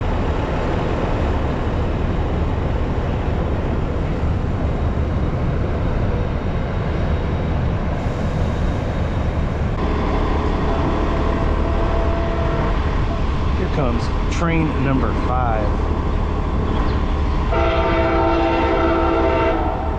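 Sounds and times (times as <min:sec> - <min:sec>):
train approaching rumble: 0:00.0 - 0:19.9.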